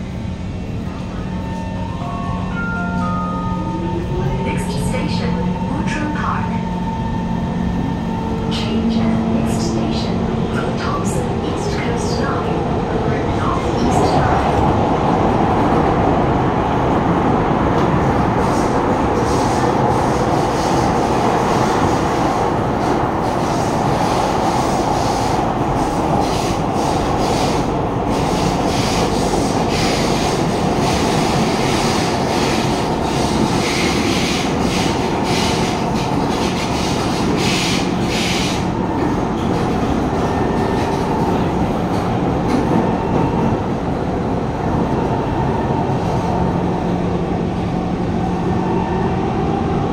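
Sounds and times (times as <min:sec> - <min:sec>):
train wheels rumbling on rail: 0:03.7 - 0:49.9.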